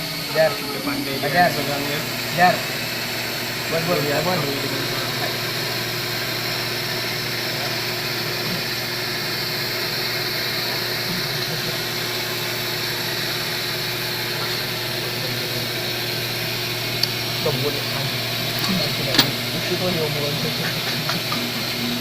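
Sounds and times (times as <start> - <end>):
cnc machine humming: 0.0 - 22.0.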